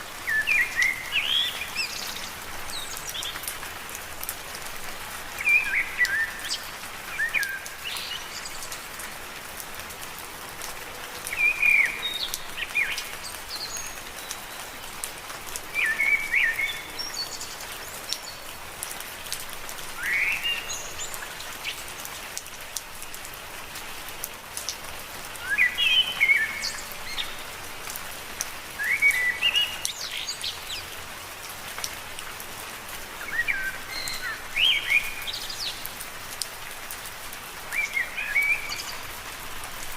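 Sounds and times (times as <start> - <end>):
rain falling on leaves: 0.0 - 39.9
water dripping: 0.2 - 39.9.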